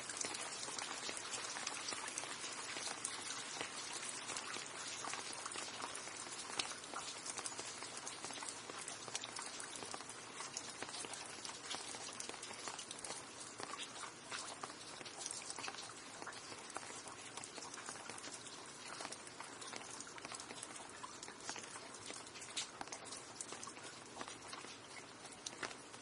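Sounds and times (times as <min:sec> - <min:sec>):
sharp drips: 0:00.0 - 0:26.0
steady rain: 0:00.0 - 0:26.0.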